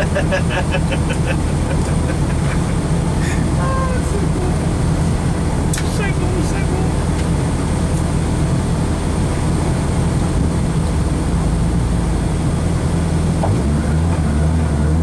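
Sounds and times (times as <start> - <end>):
rally car engine idling: 0.0 - 15.0.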